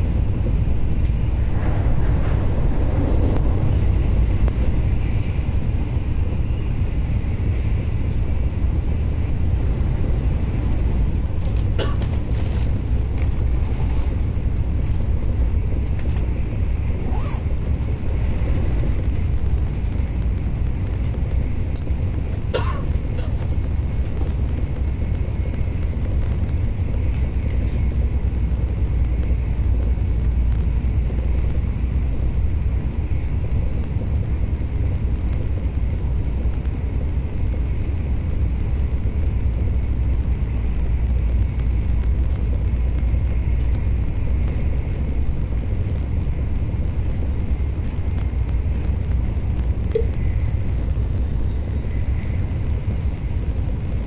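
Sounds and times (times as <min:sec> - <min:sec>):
faint high whine: 0:00.0 - 0:54.0
train cabin low rumble: 0:00.0 - 0:54.0.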